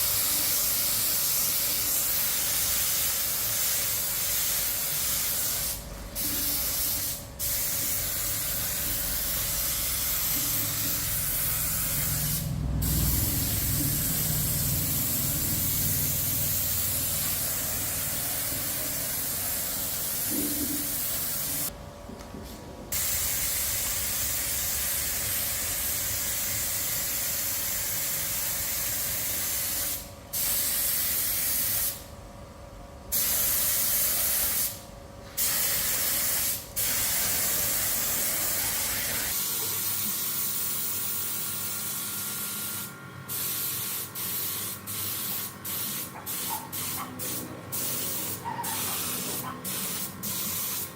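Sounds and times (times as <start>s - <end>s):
spray gun hissing: 0.0s - 21.7s, 23.0s - 32.0s, 33.1s - 34.8s, 35.4s - 50.9s.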